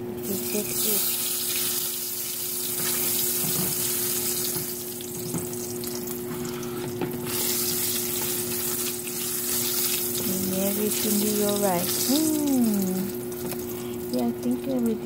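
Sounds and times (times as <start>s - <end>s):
steady low hum: 0.0s - 15.0s
sauce sizzling in a frying pan: 0.2s - 6.6s, 7.2s - 14.7s.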